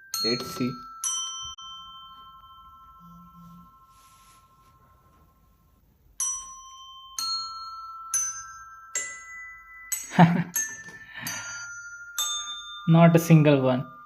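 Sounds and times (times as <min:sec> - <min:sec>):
bell-like struck notes: 0:00.0 - 0:14.0.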